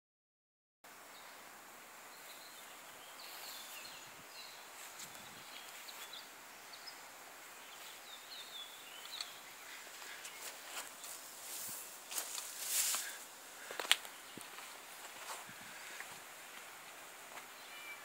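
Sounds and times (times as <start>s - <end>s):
outdoor background hiss: 0.8s - 18.0s
small birds chirping: 1.0s - 18.0s.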